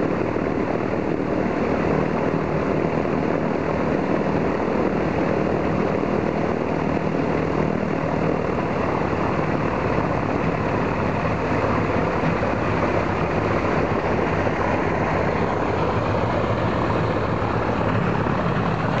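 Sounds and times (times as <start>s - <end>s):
radial aircraft engine idling: 0.0s - 19.0s.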